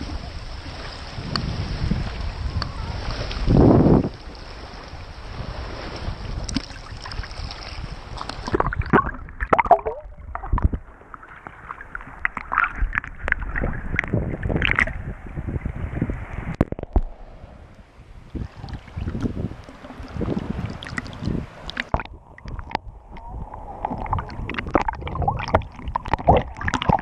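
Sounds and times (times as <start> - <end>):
underwater gurgling: 0.0 - 27.0
water sloshing and splashing: 2.0 - 15.1, 15.7 - 27.0.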